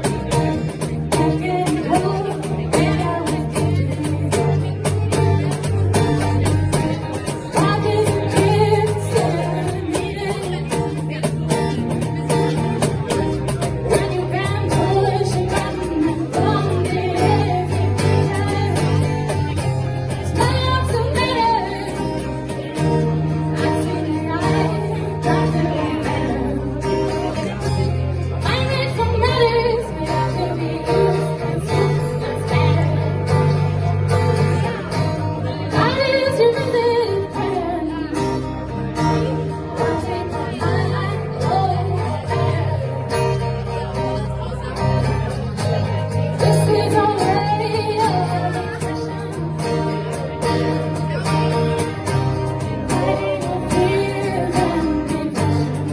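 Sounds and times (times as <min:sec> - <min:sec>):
person singing: 0:00.0 - 0:44.7, 0:45.7 - 0:55.9
live band music: 0:00.0 - 0:55.9.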